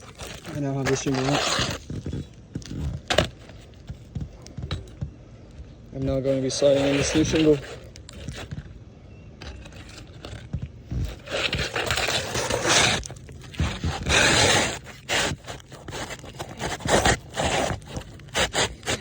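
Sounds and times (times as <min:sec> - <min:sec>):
roof shingle scraping: 0:00.0 - 0:19.0.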